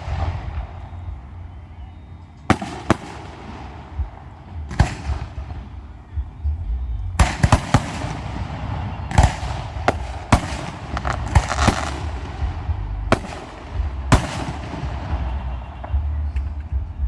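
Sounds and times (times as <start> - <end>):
fireworks bangs: 0.0 - 6.4, 7.2 - 16.9
fireworks crackling: 0.0 - 17.0.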